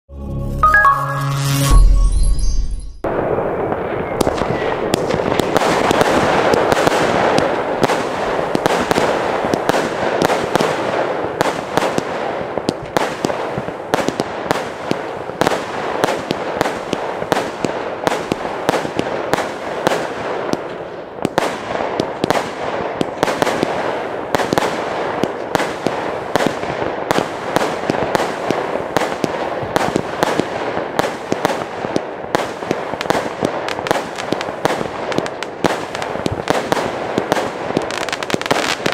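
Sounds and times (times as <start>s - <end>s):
fireworks din: 0.6s - 38.9s.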